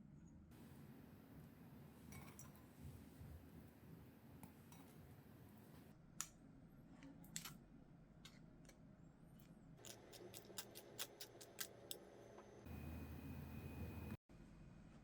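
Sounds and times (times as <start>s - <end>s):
low hum with high whine: 0.0s - 15.0s.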